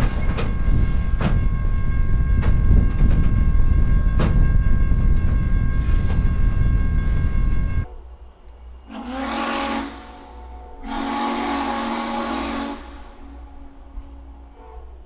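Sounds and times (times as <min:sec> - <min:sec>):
faint high whine: 0:00.0 - 0:15.0
freight train rumbling: 0:00.0 - 0:15.0.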